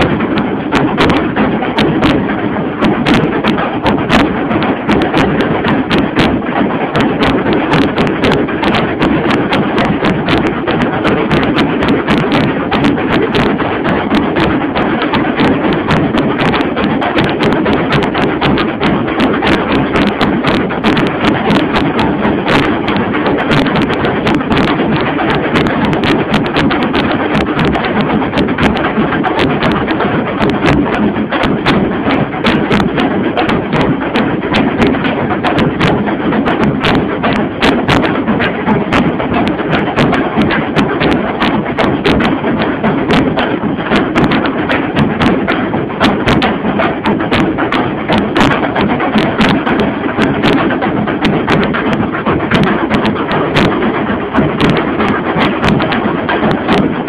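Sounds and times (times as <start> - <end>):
bass drum: 0.0 - 57.0
rapid drum stick strokes: 0.0 - 57.0.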